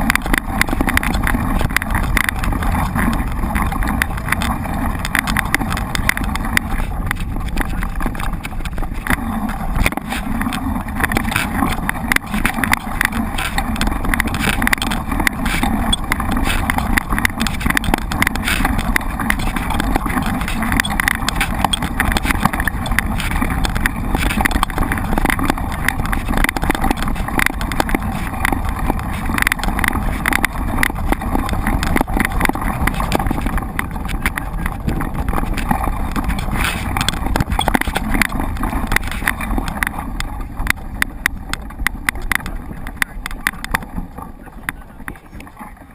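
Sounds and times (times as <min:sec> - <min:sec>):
bike rattling and knocking: 0:00.0 - 0:45.9
rush of riding noise: 0:00.0 - 0:45.9.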